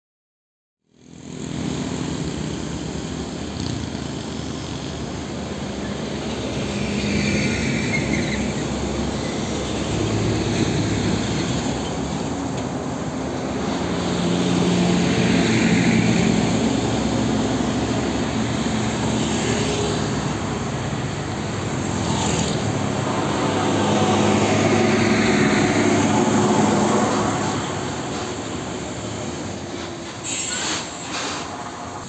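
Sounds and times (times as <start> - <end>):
truck diesel engines passing: 0.9 - 32.0.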